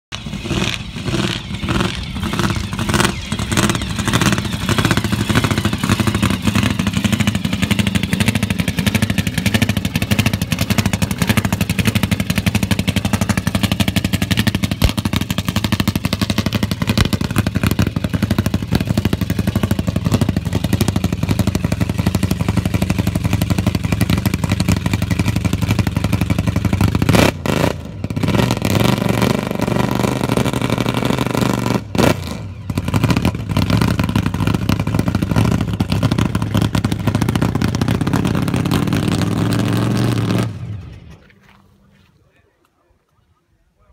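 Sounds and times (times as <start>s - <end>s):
muscle car engine rumbling: 0.1s - 43.9s.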